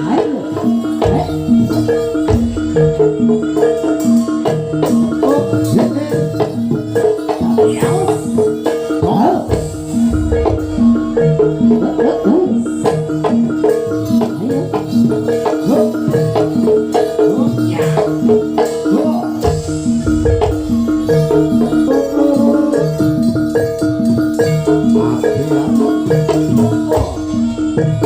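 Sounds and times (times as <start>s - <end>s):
drumming: 0.0s - 28.0s
metallophones striking pitched notes: 0.0s - 28.0s.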